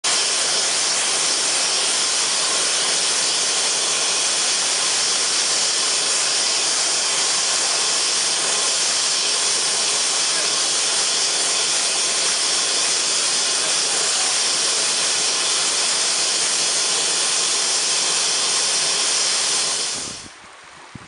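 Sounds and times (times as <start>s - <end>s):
steam hissing from a locomotive: 0.0s - 20.3s.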